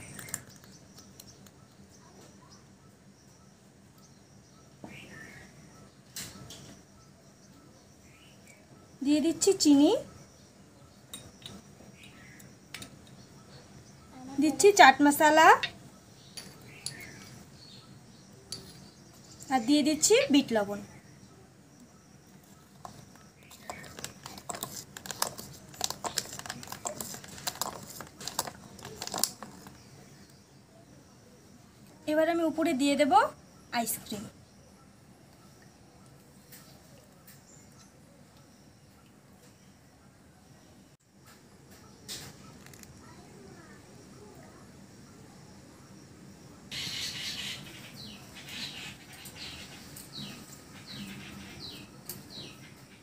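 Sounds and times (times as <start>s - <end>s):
bird chirping: 0.0s - 39.9s, 45.0s - 53.0s.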